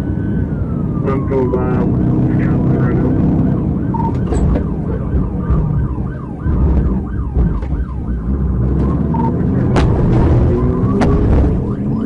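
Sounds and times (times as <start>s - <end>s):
car engine and road noise: 0.0s - 12.0s
police siren yelping: 0.0s - 12.0s.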